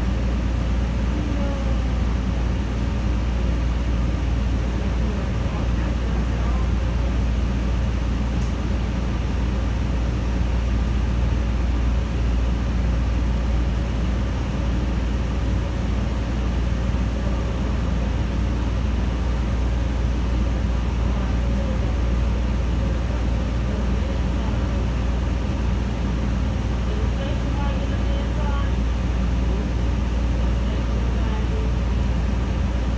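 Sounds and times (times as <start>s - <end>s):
bus engine idling: 0.0s - 32.9s.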